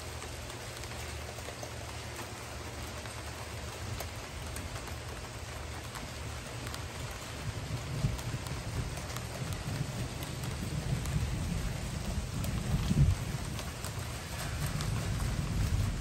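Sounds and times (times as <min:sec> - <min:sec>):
drops ticking on hard surfaces: 0:00.0 - 0:16.0
steady rain falling: 0:00.0 - 0:16.0.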